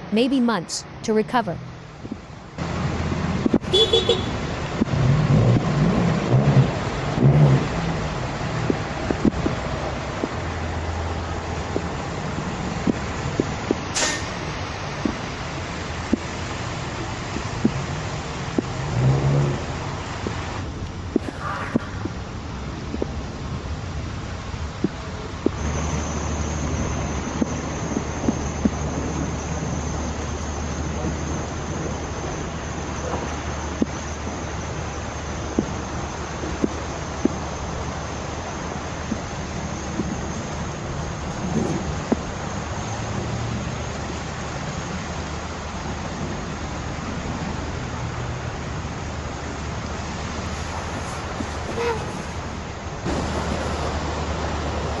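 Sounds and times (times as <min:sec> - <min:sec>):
constant low hum: 0:00.0 - 0:55.0
steady rushing noise: 0:00.0 - 0:55.0.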